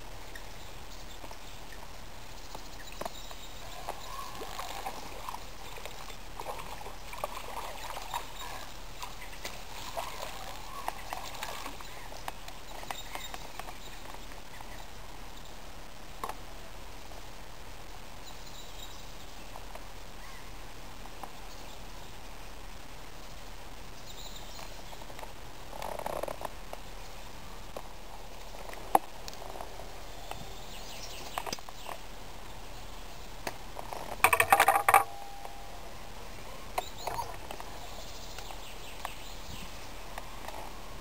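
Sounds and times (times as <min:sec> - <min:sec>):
steady outdoor hiss: 0:00.0 - 0:41.0.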